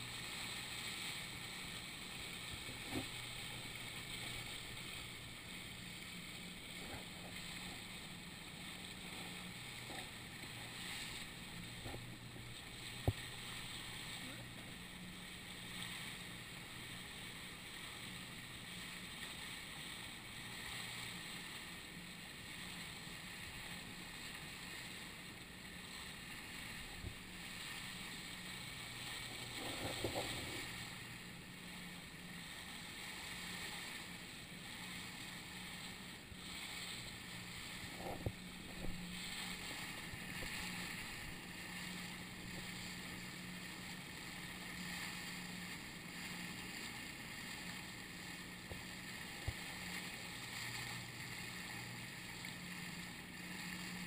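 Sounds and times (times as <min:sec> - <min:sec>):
boat engine humming: 0:00.0 - 0:54.0
water and wind hiss: 0:00.0 - 0:54.0.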